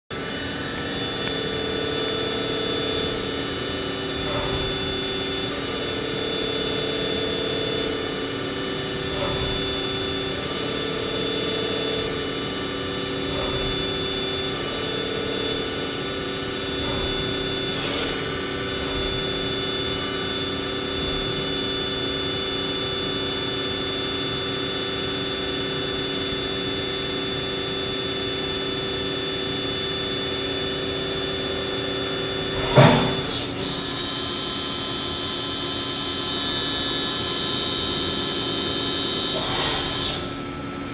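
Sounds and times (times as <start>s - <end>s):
mill spindle whine: 0.1s - 40.9s
low machine hum: 0.2s - 34.0s.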